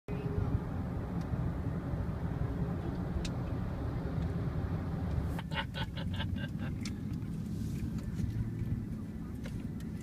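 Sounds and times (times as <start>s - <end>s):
car road and engine rumble: 0.1s - 10.0s.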